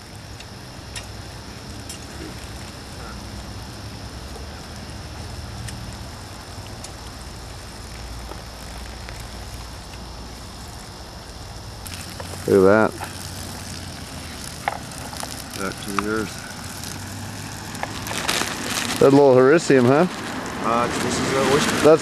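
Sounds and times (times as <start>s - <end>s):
wood chips crackling: 0.0s - 22.0s.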